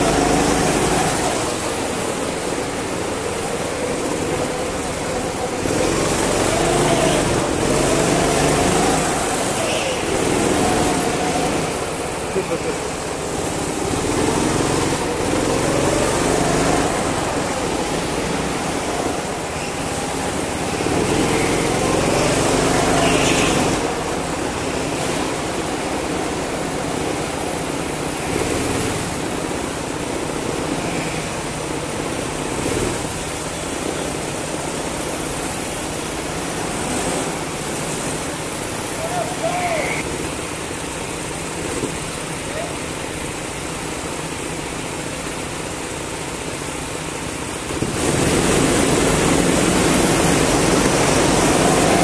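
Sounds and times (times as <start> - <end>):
go-kart engine running: 0.0 - 52.0.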